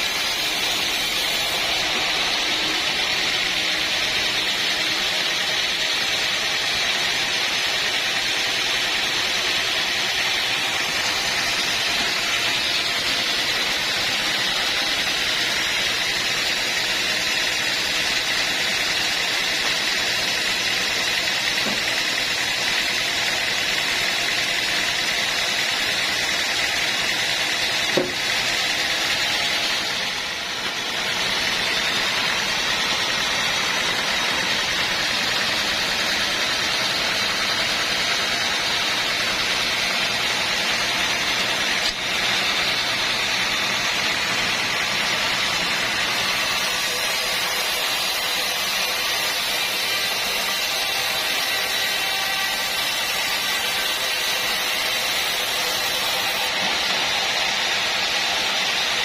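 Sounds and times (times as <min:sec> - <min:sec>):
sawmill machinery whirring: 0:00.0 - 0:59.0.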